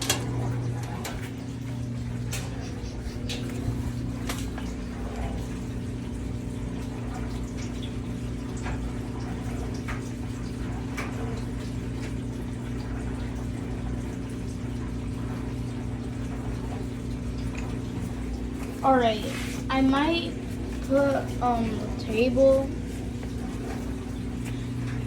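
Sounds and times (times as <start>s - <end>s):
draining water: 0.0s - 25.0s
washing machine drain pump humming: 0.0s - 25.0s.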